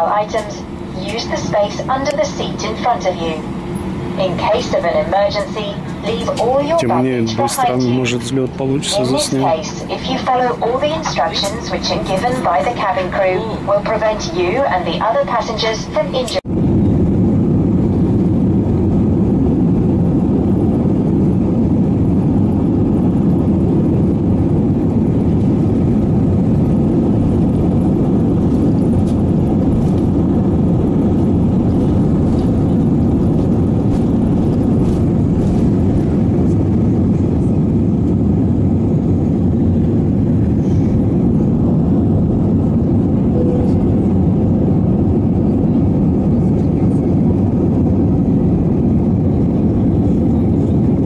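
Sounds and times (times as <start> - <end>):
jet airliner cabin rumble: 0.0 - 51.0.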